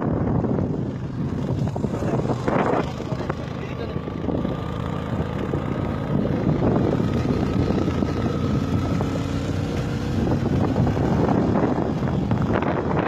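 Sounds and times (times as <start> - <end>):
wind noise on microphone: 0.0 - 13.0
motorbike engine running: 0.3 - 13.0.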